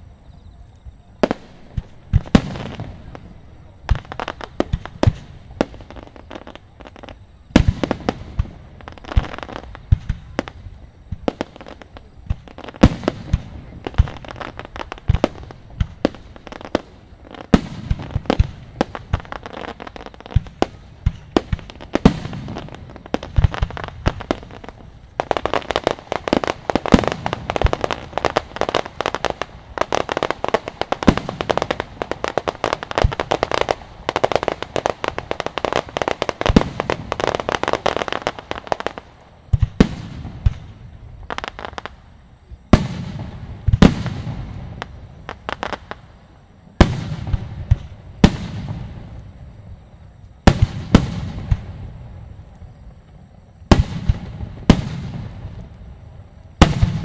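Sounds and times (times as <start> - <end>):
barrage of rapid firework pops: 1.2 - 3.3, 3.9 - 42.0, 42.7 - 46.1, 46.8 - 49.3, 50.4 - 51.9, 53.7 - 55.8, 56.6 - 57.0.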